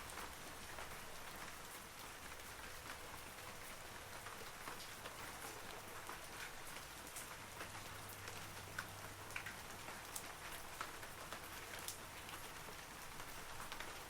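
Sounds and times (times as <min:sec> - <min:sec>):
light rain on foliage: 0:00.0 - 0:14.0.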